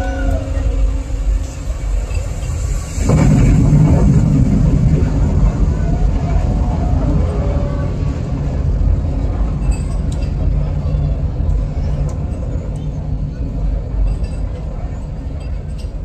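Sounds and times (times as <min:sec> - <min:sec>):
rocket engine rumble: 0:00.0 - 0:16.0.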